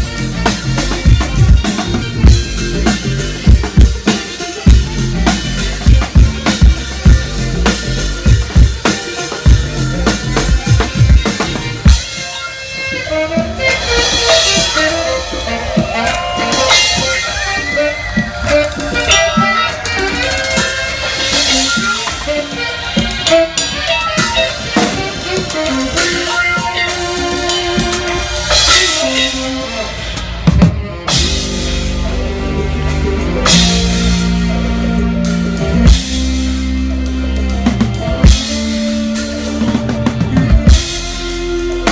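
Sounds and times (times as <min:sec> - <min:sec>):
bass: 0:00.0 - 0:41.9
drum kit: 0:00.0 - 0:41.9
keyboards: 0:00.0 - 0:41.9
saxophone melody: 0:00.0 - 0:41.9.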